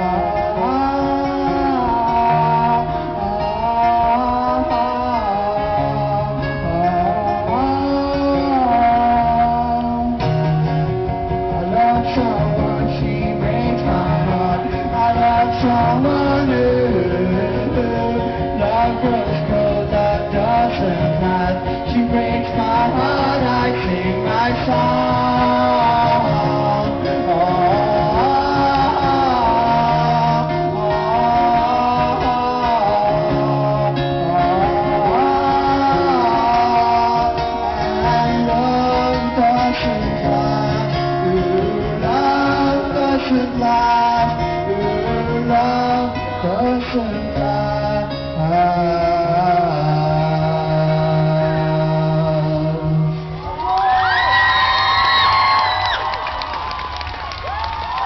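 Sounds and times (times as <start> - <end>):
electric guitar: 0.0 - 58.0
live rock band playing: 0.0 - 58.0.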